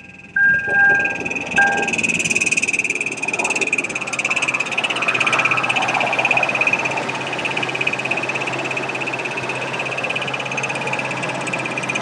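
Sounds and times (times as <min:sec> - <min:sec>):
car engine idling with rattling knock: 0:00.0 - 0:12.0.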